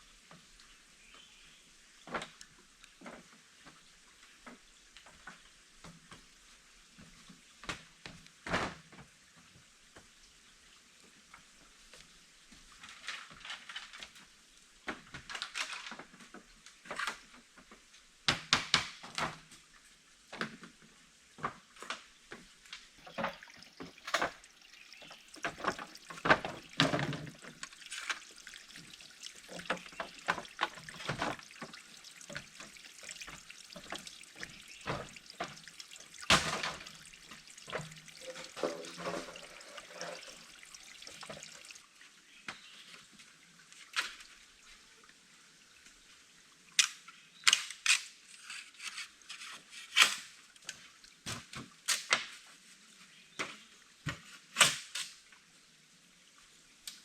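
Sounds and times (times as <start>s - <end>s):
water splashing and dribbling: 0.0s - 57.0s.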